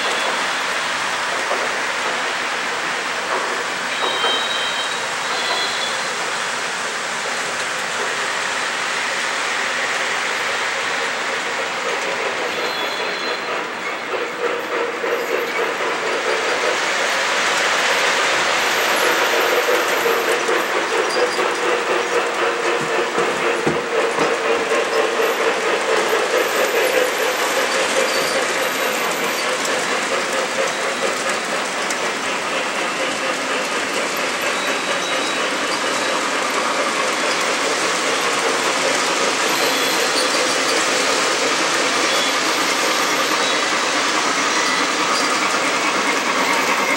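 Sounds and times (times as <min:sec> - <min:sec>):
model train wheels rumbling on track: 0:00.0 - 0:46.9.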